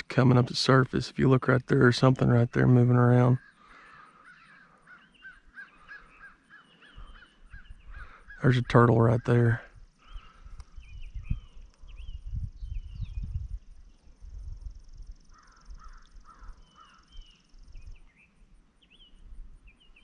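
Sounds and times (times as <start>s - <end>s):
small birds chirping: 0.0s - 20.0s
louder bird calls: 2.3s - 20.0s.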